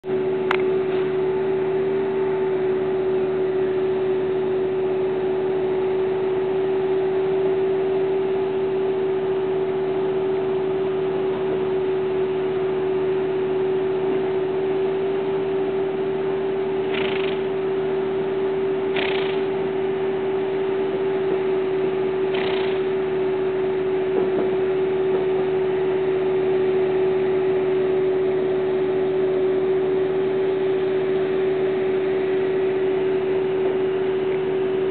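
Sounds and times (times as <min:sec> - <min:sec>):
steady even-pitched hum: 0:00.0 - 0:34.9.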